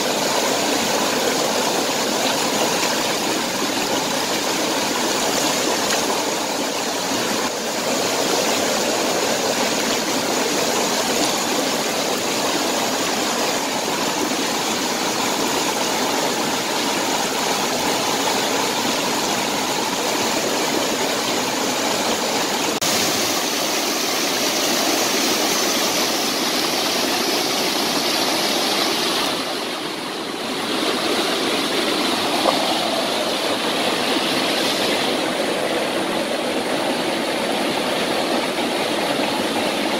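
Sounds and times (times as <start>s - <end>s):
stream water rushing over rock: 0.0s - 39.9s.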